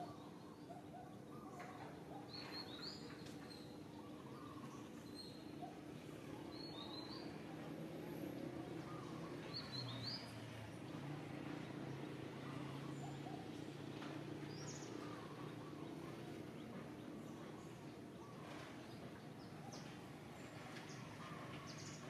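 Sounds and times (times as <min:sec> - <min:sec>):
birds chirping: 0:00.0 - 0:07.6, 0:08.3 - 0:22.0.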